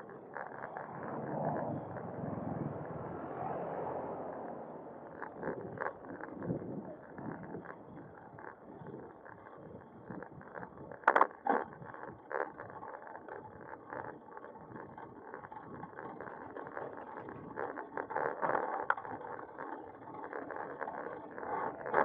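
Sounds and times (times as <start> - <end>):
bicycle tyres rumbling: 0.0 - 22.0.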